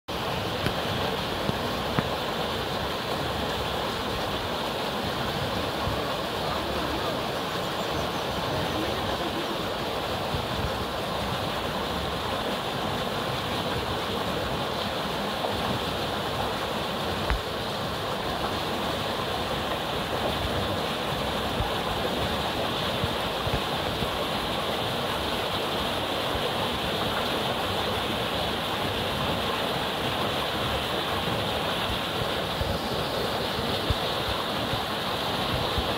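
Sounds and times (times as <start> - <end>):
river water rushing: 0.1 - 35.9.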